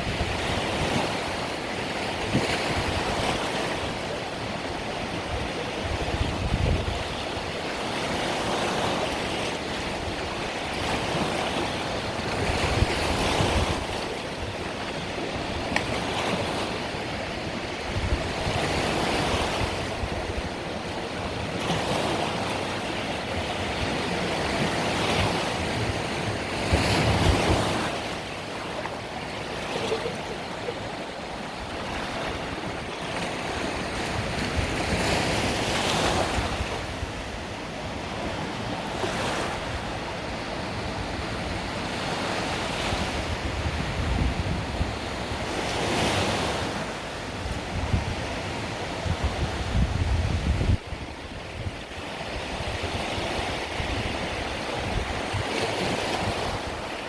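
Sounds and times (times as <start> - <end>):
sea waves washing onto beach: 0.0 - 57.0.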